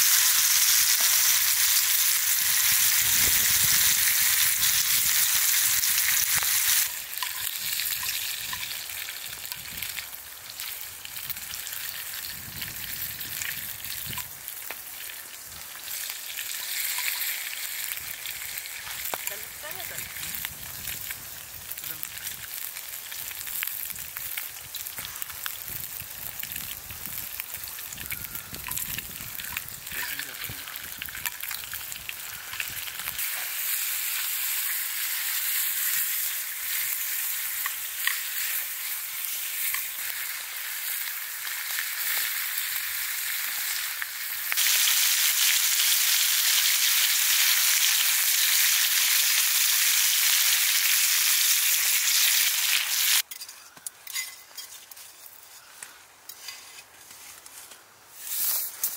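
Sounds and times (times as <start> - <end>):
bacon frying in a pan: 0.0 - 53.4.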